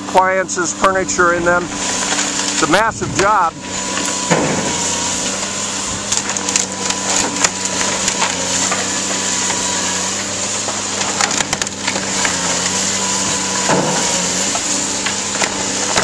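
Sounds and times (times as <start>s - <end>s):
excavator engine running: 0.0s - 16.0s
timber cracking and splintering: 0.0s - 16.0s.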